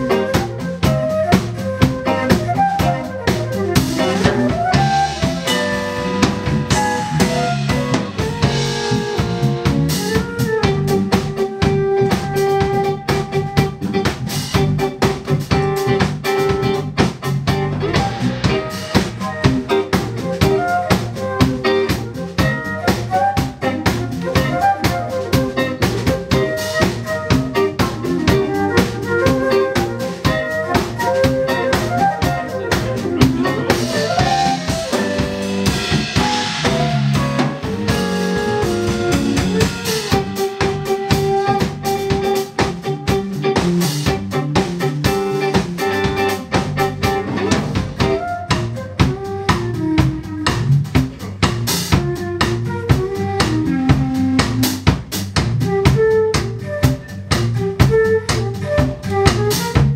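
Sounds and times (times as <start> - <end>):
flute: 0.0 - 17.0, 17.7 - 59.9
drum kit beat: 0.0 - 59.9
jazz band playing: 0.0 - 59.9.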